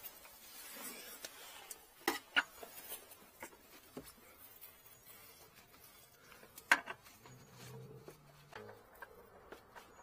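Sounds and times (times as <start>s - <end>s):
faint rustling: 0.0s - 10.0s.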